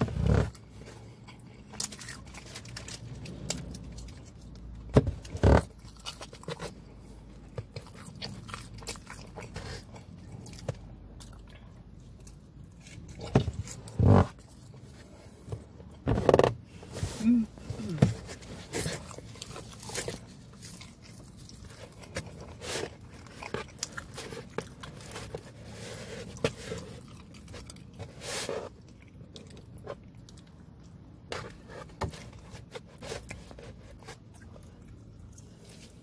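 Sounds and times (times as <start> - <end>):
chewing and biting pizza: 0.0 - 36.0.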